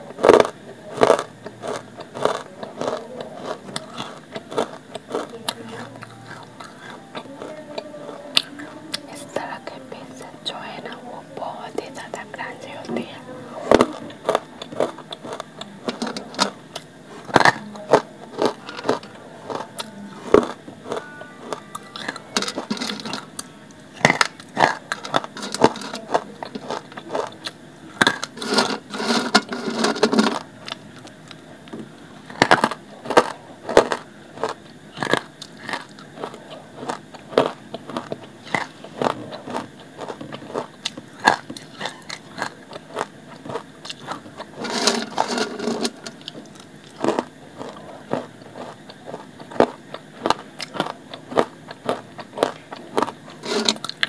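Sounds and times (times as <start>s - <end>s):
chewing dry clay crunches: 0.0s - 9.0s, 13.6s - 54.0s.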